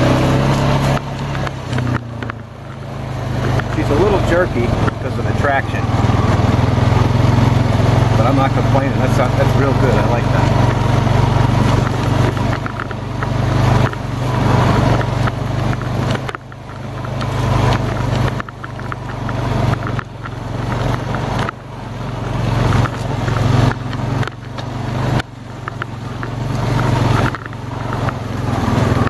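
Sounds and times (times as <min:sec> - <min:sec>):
atv engine revving: 0:00.0 - 0:29.0.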